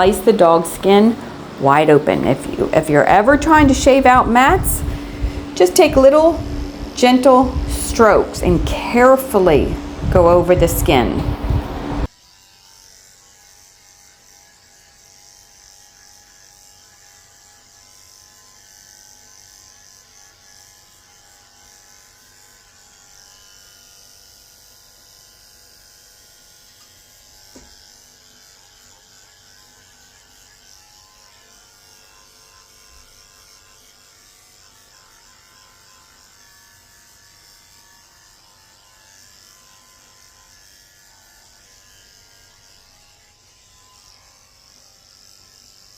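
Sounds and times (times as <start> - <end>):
electric clippers shaving fur: 0.0 - 45.9.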